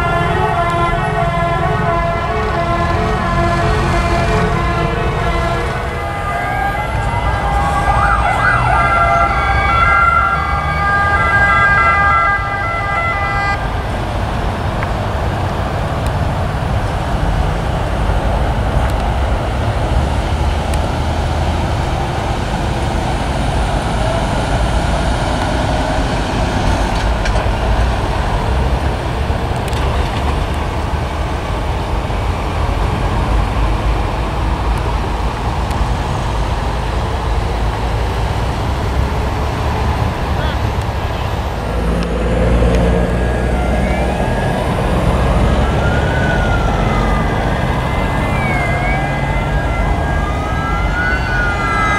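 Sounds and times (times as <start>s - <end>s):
emergency vehicle siren: 0.0s - 51.9s
motorway traffic rumble: 0.0s - 51.9s.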